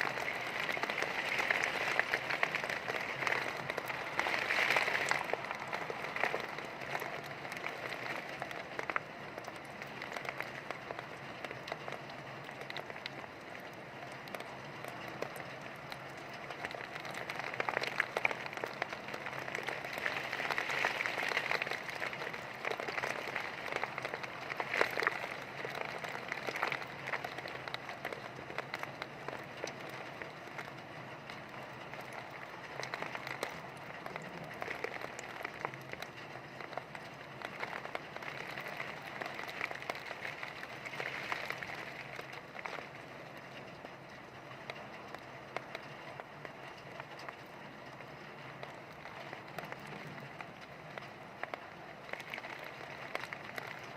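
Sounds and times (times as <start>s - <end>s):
heavy rain pattering: 0.0s - 53.9s
sharp taps of raindrops: 0.0s - 53.9s.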